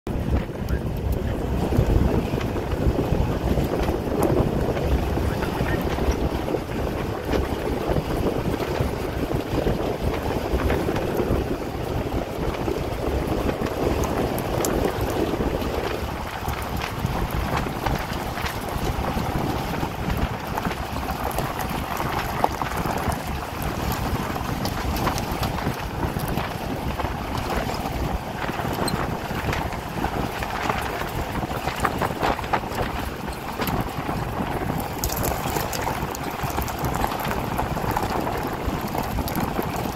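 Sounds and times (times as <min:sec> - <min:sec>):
wind buffeting microphone: 0:00.1 - 0:39.9.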